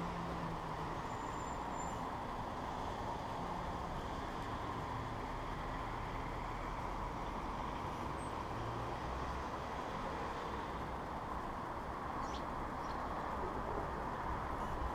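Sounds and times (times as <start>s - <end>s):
city traffic hum: 0.0s - 14.9s.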